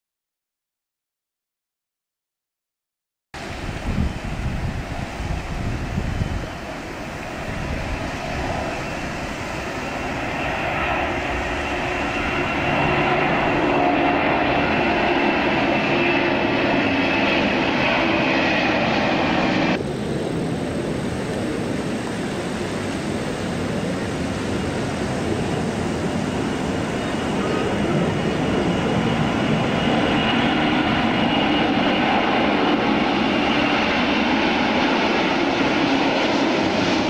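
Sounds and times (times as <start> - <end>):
dull steady jet noise: 3.4 - 37.0
high turbine whine: 3.4 - 37.0
jet engines at takeoff thrust: 3.4 - 37.0.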